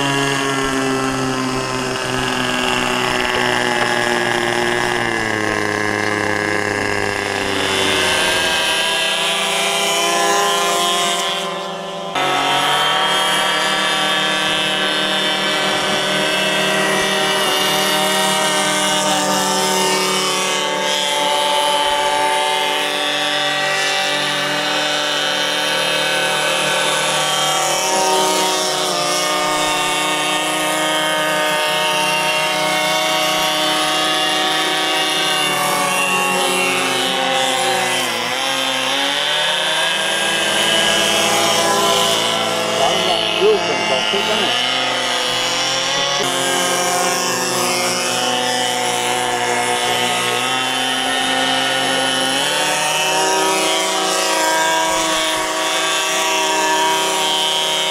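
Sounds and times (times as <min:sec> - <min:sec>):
model engine and propeller drone: 0:00.0 - 0:57.9.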